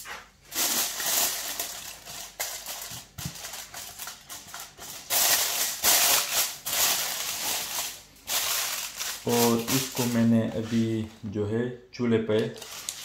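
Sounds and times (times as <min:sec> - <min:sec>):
aluminium foil crinkling: 0:00.4 - 0:11.2, 0:12.4 - 0:13.0.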